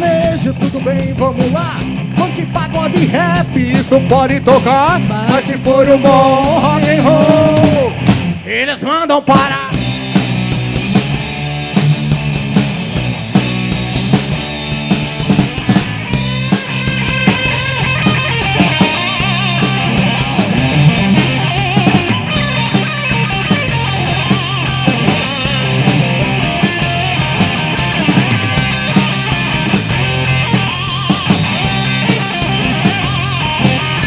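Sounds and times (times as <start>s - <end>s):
bass guitar: 0.0s - 34.0s
drum kit: 0.0s - 34.0s
electric guitar lead: 0.0s - 34.0s.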